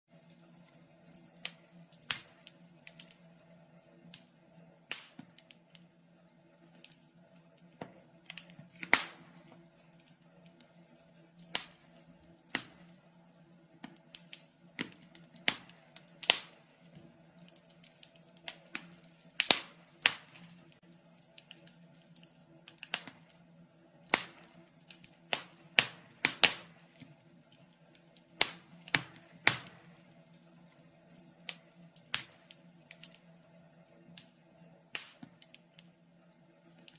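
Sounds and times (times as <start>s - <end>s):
faint steady hum: 0.1s - 36.9s
fire crackling and popping: 0.1s - 36.9s.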